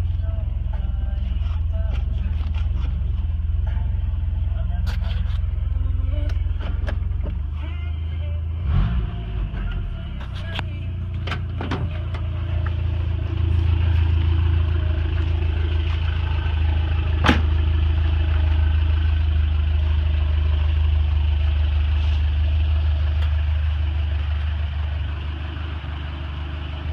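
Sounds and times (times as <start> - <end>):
car engine running with low drone: 0.0 - 26.9.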